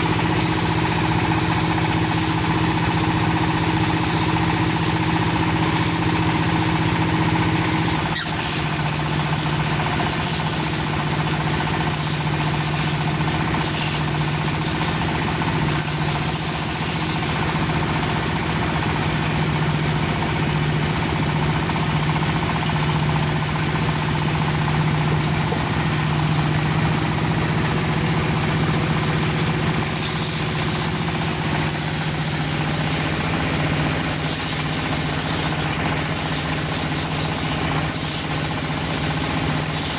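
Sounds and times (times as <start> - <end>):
dowel machine humming: 0.0 - 39.9.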